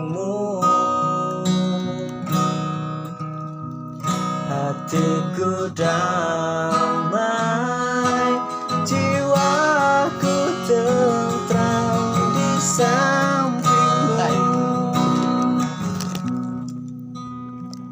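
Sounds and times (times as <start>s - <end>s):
strummed acoustic guitar: 0.0s - 17.9s.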